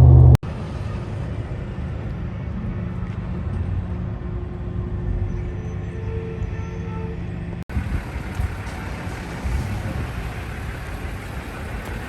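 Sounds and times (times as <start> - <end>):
vehicle engines rumbling: 0.0 - 5.3, 7.2 - 12.0.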